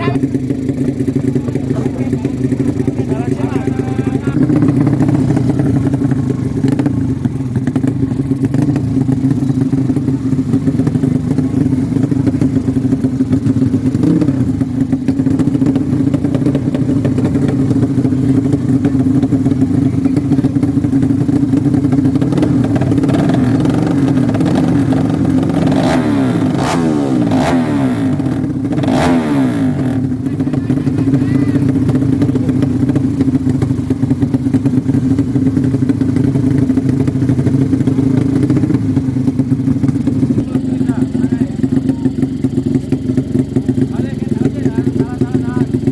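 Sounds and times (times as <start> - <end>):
motorcycle engine revving high: 0.0 - 45.9.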